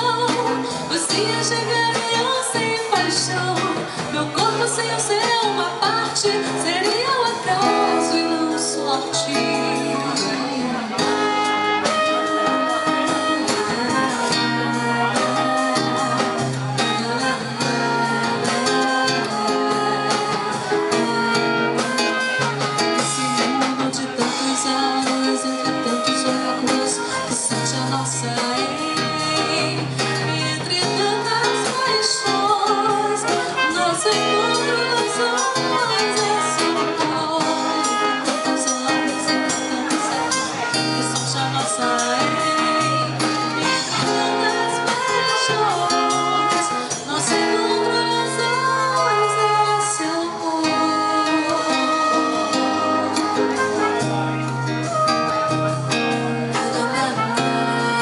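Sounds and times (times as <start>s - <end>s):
drums: 0.0s - 58.0s
nylon-string guitar: 0.0s - 58.0s
saxophone melody: 0.0s - 58.0s.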